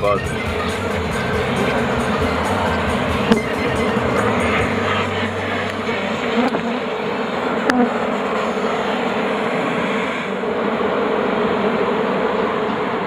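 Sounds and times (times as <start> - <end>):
bees buzzing loudly: 0.0 - 13.0.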